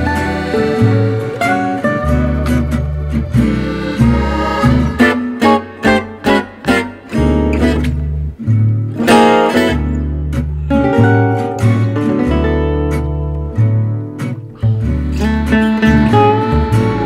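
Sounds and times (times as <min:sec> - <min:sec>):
acoustic guitars strumming: 0:00.0 - 0:17.0
plucked double bass: 0:00.0 - 0:17.0.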